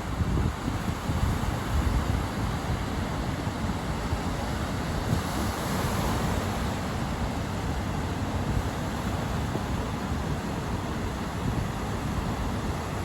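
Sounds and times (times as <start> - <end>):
breaking surf rushing: 0.0 - 13.0
wind buffeting microphone: 0.0 - 13.0.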